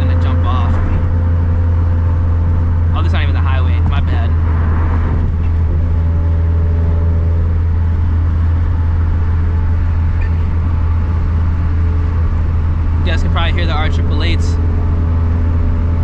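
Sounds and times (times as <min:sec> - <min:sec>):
car engine low drone in cabin: 0:00.0 - 0:16.0.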